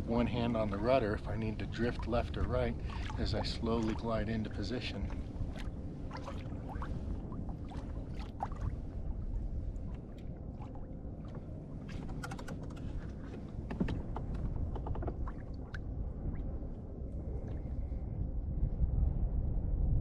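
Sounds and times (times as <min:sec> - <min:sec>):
water lapping against kayak hull: 0:00.0 - 0:18.0
low steady rumble: 0:00.0 - 0:20.0.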